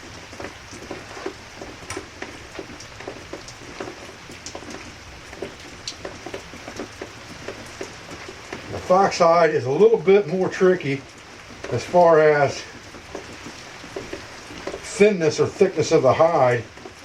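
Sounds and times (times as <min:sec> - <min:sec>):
drops ticking on a surface: 0:00.0 - 0:17.0
steady rain: 0:00.0 - 0:17.0.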